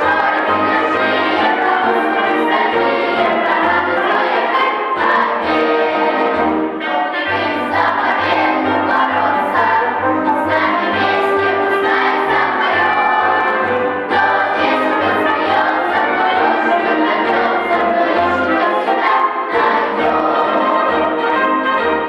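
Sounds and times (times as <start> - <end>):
children's choir singing: 0.0 - 22.0.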